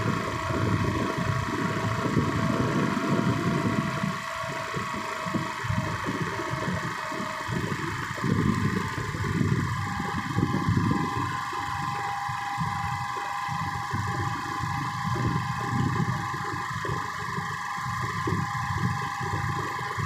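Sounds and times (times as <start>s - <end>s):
high whine: 0.0s - 20.0s
vehicle engine and road rumble: 0.0s - 20.0s.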